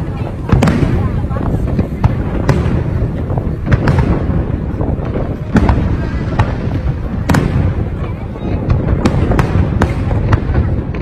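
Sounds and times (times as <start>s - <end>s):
fireworks booms and crackle: 0.0s - 11.0s
sharp firework bangs: 0.0s - 11.0s.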